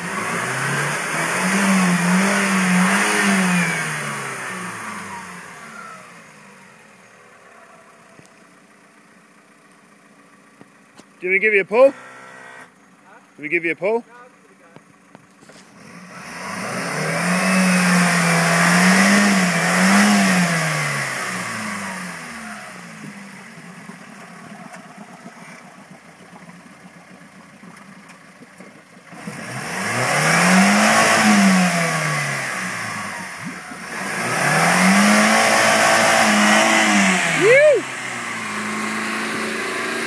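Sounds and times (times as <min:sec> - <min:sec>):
off-road vehicle engine revving: 0:00.0 - 0:09.4, 0:11.2 - 0:28.2, 0:28.9 - 0:40.0.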